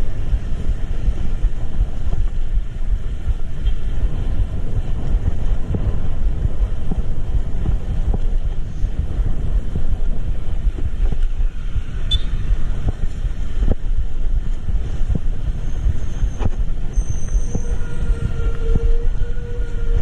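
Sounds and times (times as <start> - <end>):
vehicle road noise rumble: 0.0 - 20.0
wind buffeting microphone: 0.0 - 20.0.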